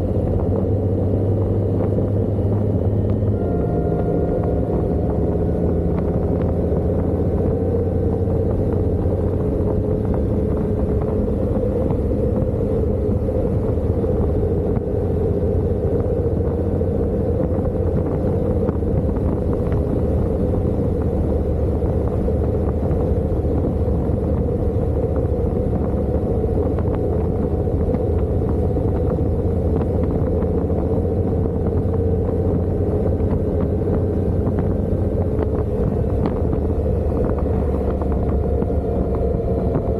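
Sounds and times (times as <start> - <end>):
motorcycle engine drone: 0.0 - 39.9
road noise: 0.0 - 39.9
wind noise: 0.0 - 39.9.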